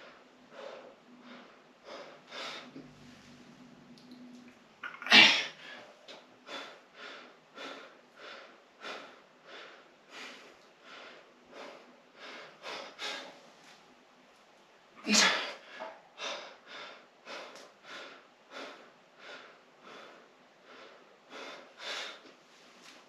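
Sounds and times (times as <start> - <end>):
man breathing hard in puffs: 0.0 - 3.5, 5.5 - 13.8, 15.4 - 23.0.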